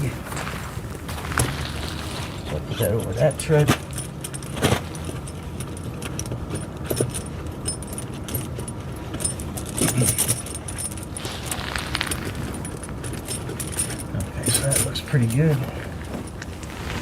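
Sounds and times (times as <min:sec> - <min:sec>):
steady low hum: 0:00.0 - 0:17.0
tire chain links clinking: 0:00.0 - 0:17.0.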